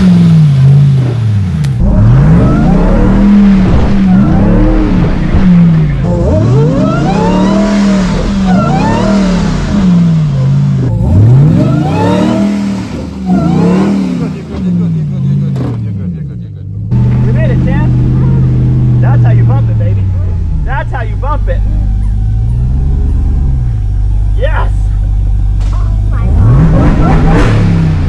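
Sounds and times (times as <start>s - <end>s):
truck engine revving hard: 0.0s - 24.2s, 24.9s - 28.0s.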